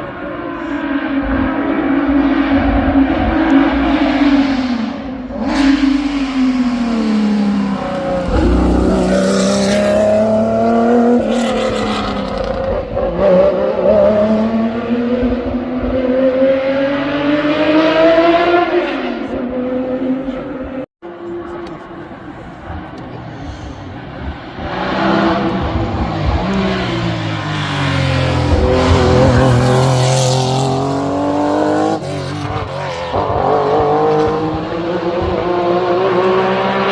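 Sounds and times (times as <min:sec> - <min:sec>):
racing car engine revving: 0:01.2 - 0:21.8, 0:24.5 - 0:36.9.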